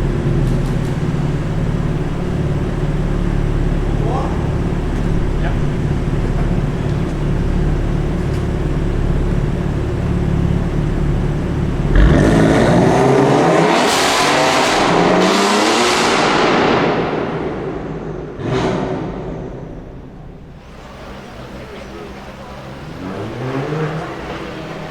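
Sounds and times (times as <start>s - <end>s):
car engine accelerating: 0.0s - 24.9s.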